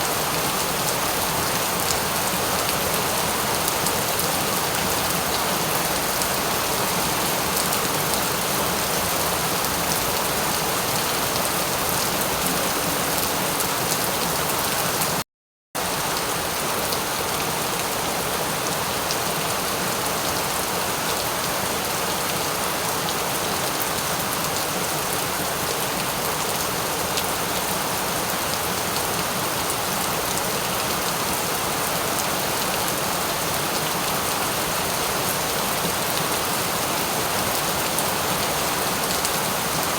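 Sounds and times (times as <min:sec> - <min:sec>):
steady rain falling: 0:00.0 - 0:15.2, 0:15.8 - 0:39.9.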